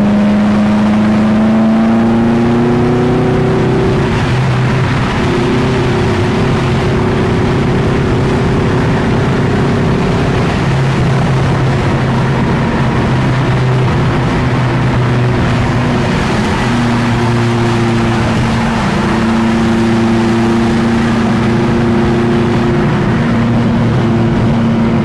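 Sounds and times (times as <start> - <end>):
loud car engine running: 0.0 - 25.0.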